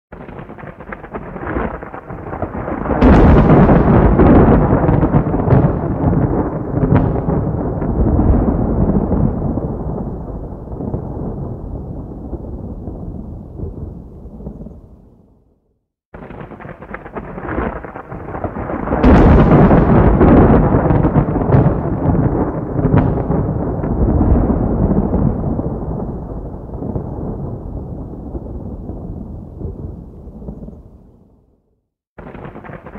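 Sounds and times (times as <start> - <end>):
rolling thunder: 0.1 - 15.3, 16.2 - 31.4, 32.2 - 32.9
thunder crackles: 0.1 - 15.5, 16.2 - 31.4, 32.2 - 32.9.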